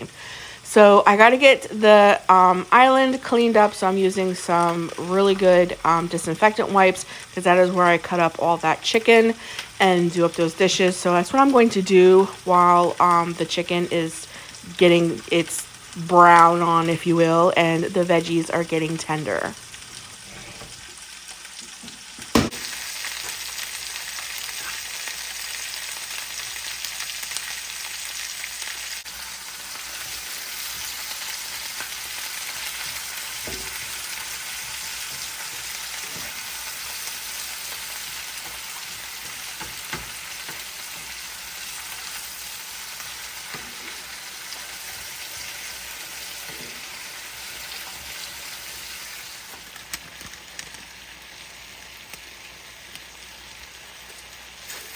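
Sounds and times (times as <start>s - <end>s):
food sizzling in oil: 0.0s - 54.9s.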